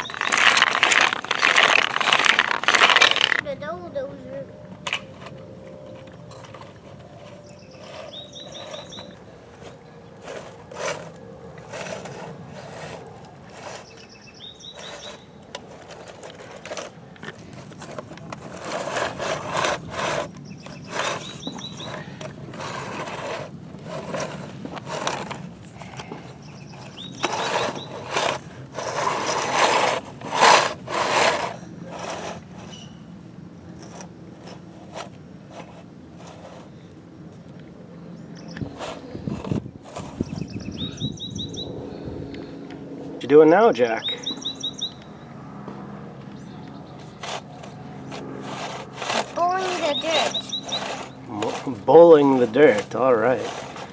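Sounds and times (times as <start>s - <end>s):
toy bulldozer scraping through dirt: 0.0s - 3.6s, 4.8s - 33.1s, 33.7s - 36.9s, 38.4s - 41.6s, 46.7s - 53.9s.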